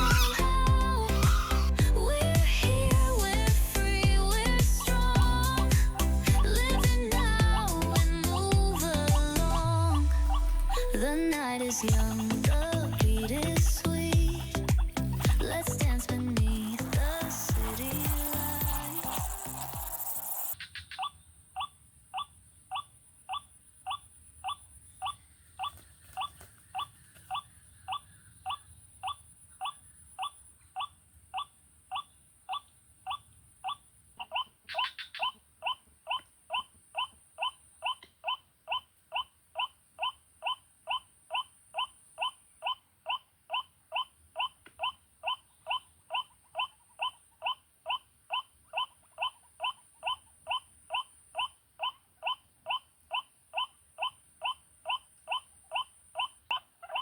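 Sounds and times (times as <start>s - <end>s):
waterhen calls: 0.0s - 2.6s, 3.2s - 57.0s.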